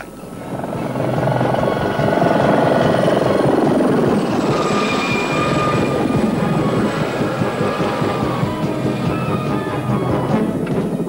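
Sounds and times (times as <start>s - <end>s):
helicopter rotor chop: 0.0s - 11.0s
turbine whine: 0.0s - 11.0s.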